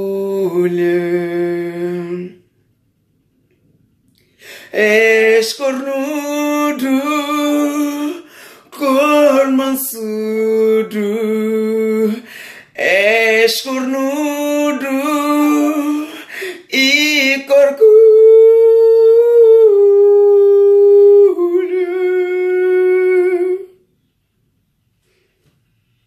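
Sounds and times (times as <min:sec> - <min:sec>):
man singing without words: 0:00.0 - 0:02.5, 0:04.4 - 0:23.9.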